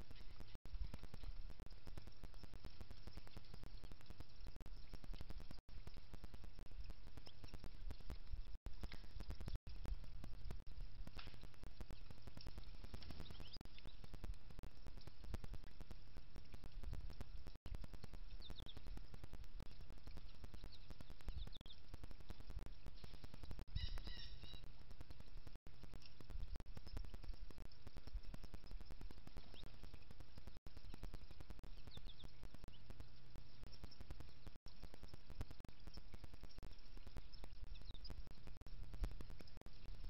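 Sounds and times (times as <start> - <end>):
faint bird chirps: 0.0 - 9.6, 10.4 - 14.2, 18.3 - 25.4, 26.5 - 39.9.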